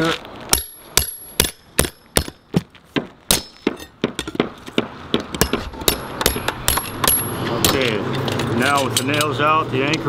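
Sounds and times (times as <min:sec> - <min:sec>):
hammer clanging on steel: 0:00.5 - 0:09.5.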